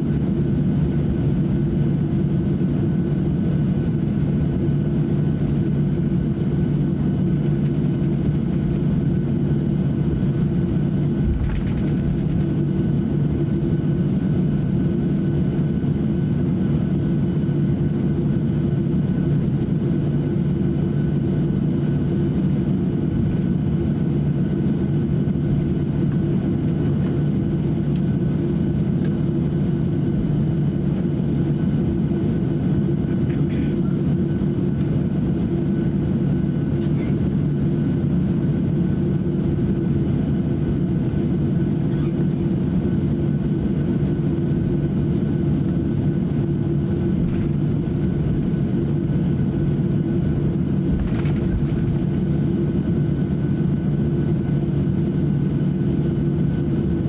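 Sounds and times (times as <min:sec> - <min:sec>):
jet engines idling hum: 0:00.0 - 0:57.0.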